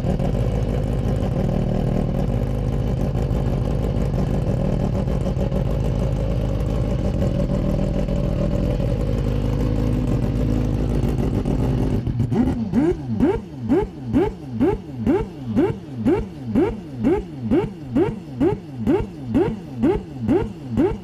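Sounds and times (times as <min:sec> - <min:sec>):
race car engine running: 0:00.0 - 0:21.0.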